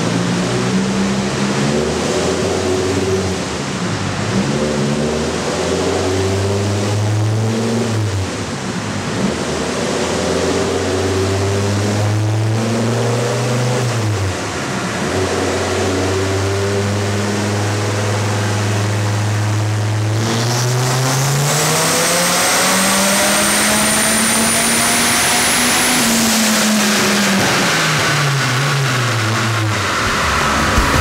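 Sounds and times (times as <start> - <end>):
car engine revving on dyno: 0.0 - 31.0.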